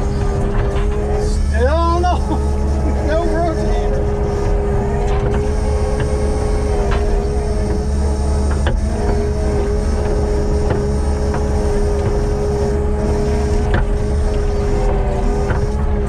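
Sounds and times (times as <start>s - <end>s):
diesel engine running: 0.0s - 16.0s
engine whine: 0.0s - 16.0s.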